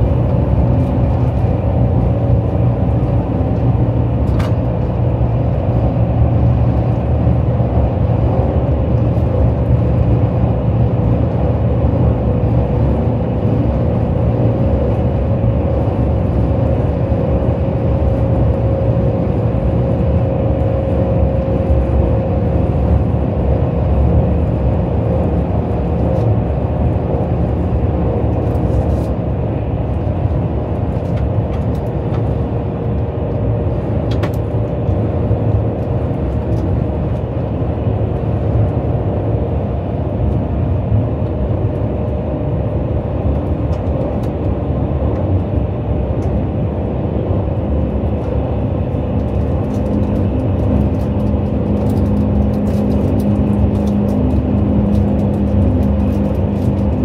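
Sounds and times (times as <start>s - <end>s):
train cabin rumble: 0.0s - 57.0s.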